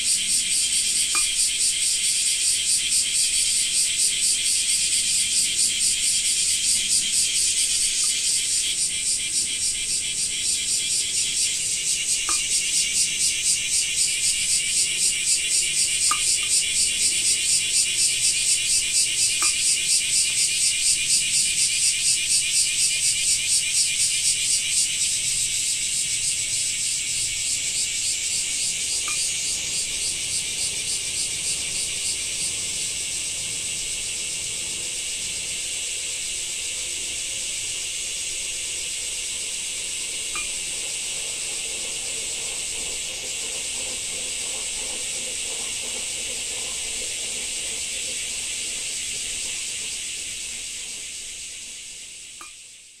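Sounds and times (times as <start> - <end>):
cicadas buzzing: 0.0 - 53.0.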